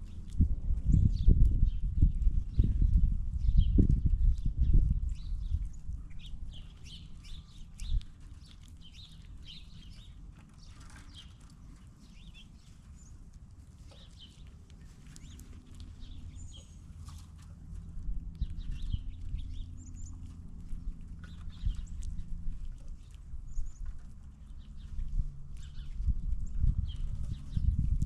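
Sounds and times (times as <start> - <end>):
low steady rumble: 0.0 - 28.0
small birds chirping: 0.0 - 28.0.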